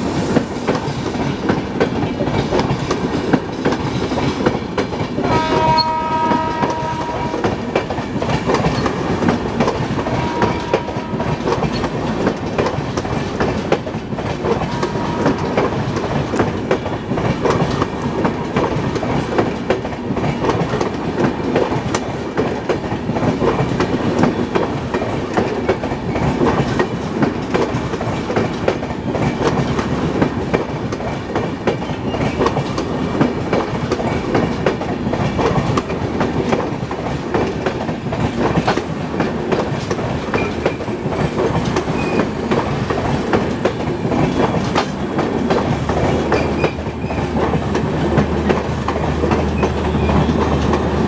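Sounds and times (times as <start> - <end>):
train rumble: 0.0 - 51.0
train wheels clattering: 0.0 - 51.0.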